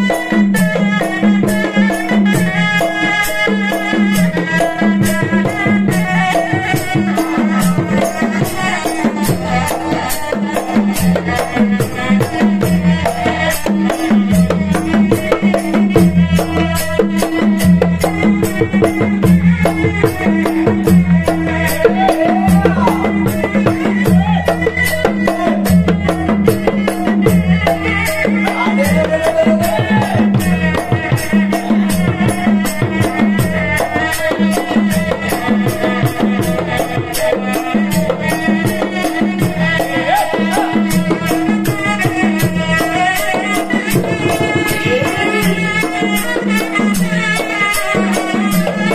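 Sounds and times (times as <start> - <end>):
hand drums beating: 0.0 - 48.9
reedy wind instrument melody: 0.0 - 48.9.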